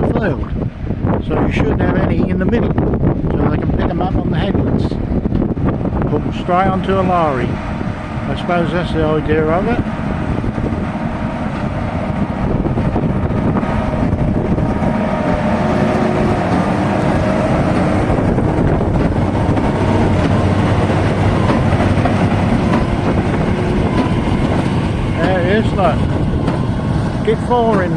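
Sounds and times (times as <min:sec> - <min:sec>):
tractor engine running: 0:05.2 - 0:27.9.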